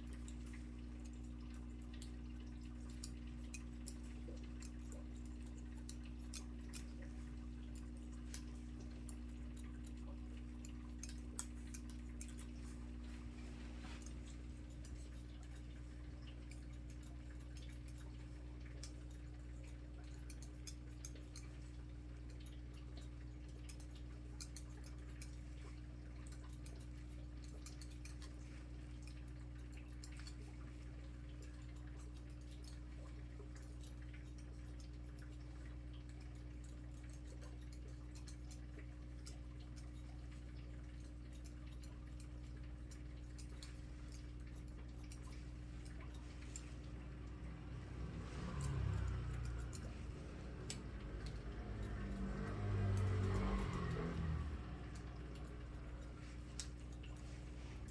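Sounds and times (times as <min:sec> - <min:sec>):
low electric hum: 0:00.0 - 0:57.9
scissors snipping hair: 0:00.0 - 0:57.9.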